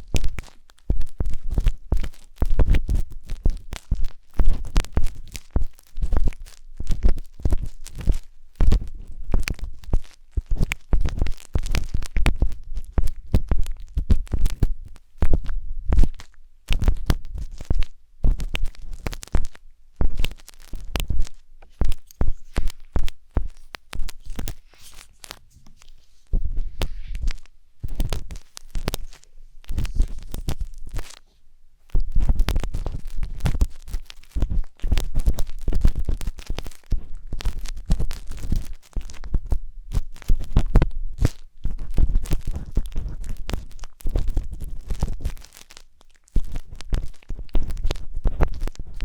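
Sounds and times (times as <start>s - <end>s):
wooden skewer scratching microphone: 0.0s - 49.0s.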